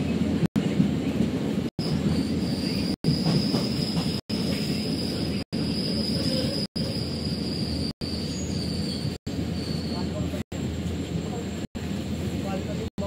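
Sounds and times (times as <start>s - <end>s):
train carriage rumbling: 0.0s - 13.0s.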